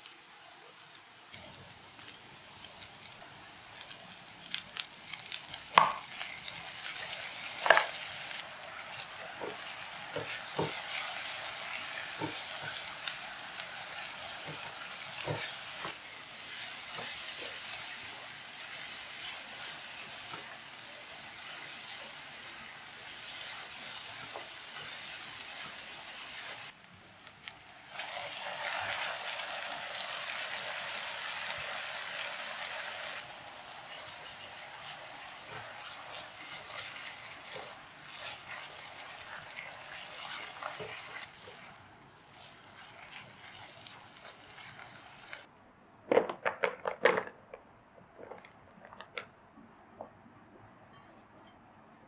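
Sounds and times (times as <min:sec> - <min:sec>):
food sizzling in a pan: 0:00.0 - 0:45.5.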